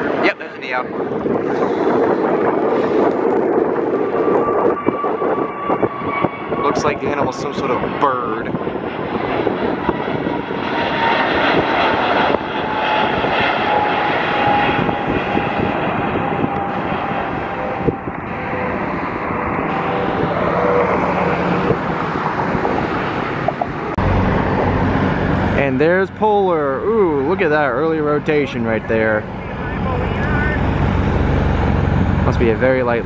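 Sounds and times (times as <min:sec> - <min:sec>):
jet engine whine: 0:00.0 - 0:33.0
jet engines roaring: 0:00.0 - 0:33.0.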